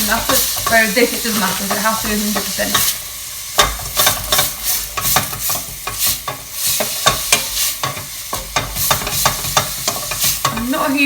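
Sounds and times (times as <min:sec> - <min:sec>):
spoon stirring vegetables in a pan: 0:00.0 - 0:11.0
vegetables sizzling: 0:00.0 - 0:11.0.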